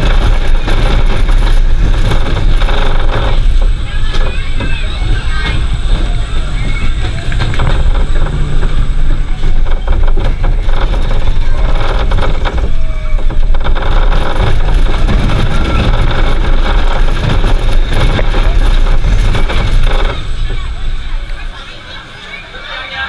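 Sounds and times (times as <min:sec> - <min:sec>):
wind noise on microphone: 0:00.0 - 0:21.9
roller coaster wheels rumbling: 0:00.0 - 0:23.0.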